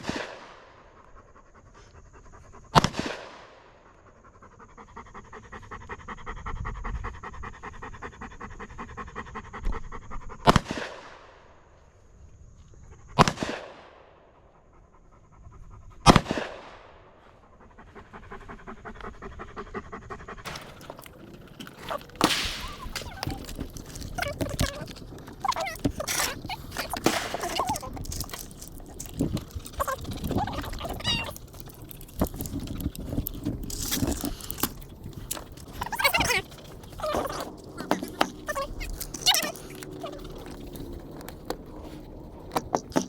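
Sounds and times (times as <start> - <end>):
dog panting: 0.0 - 11.3, 14.4 - 43.0.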